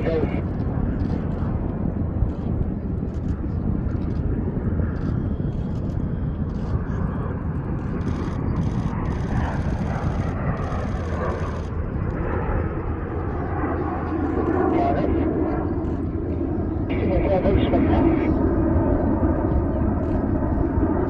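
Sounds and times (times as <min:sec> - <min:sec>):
faint jet whine: 0:00.0 - 0:21.0
jets rumbling in flight: 0:00.0 - 0:21.0.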